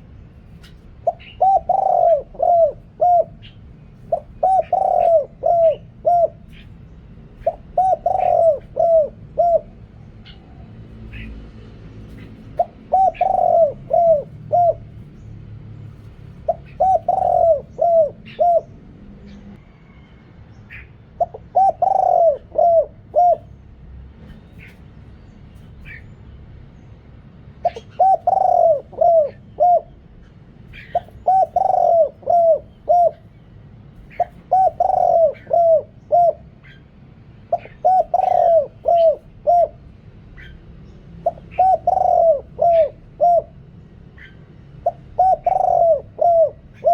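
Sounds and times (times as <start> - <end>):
dove cooing: 0.0 - 15.3, 15.9 - 19.5, 20.7 - 23.6, 27.6 - 46.9
small birds chirping: 0.0 - 46.9.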